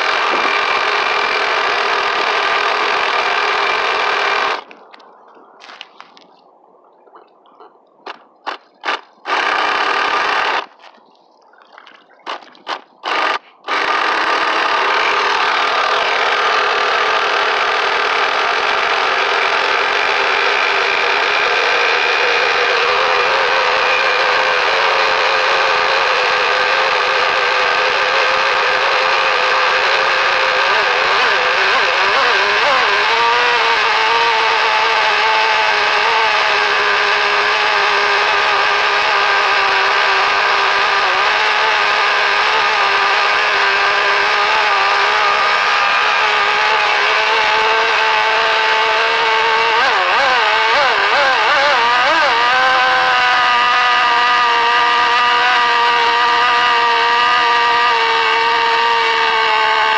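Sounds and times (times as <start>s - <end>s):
model boat engine idling: 0.0s - 4.7s, 12.2s - 59.9s.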